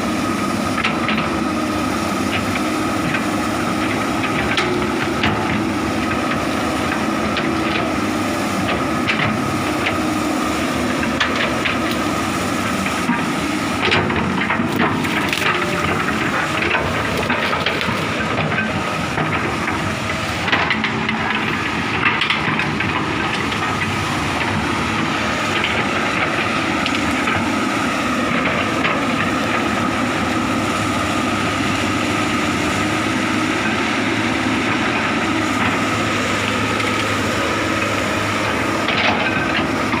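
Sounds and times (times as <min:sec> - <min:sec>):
excavator running with high whine: 0:00.0 - 0:40.0.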